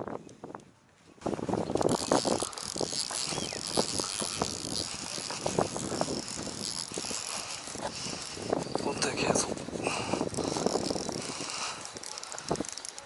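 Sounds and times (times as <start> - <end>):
fishing reel drag clicking: 1.6 - 9.2, 9.8 - 13.0.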